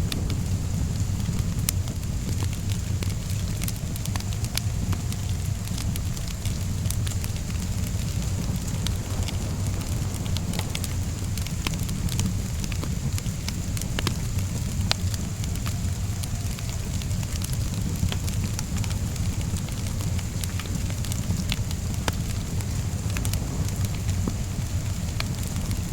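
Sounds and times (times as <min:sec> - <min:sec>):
rain hissing: 0:00.0 - 0:25.9
wood fire crackling: 0:00.0 - 0:25.9.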